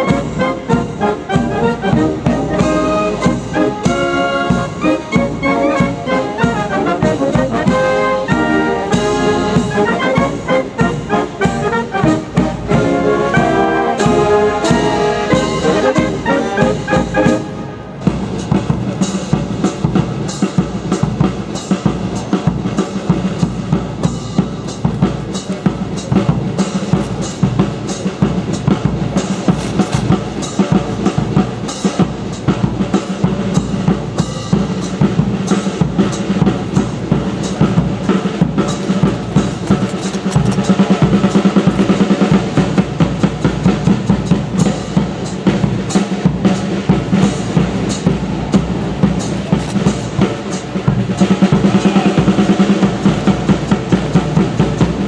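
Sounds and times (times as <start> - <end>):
marching drum beat: 0.0 - 55.0
military band playing a march: 0.0 - 55.0.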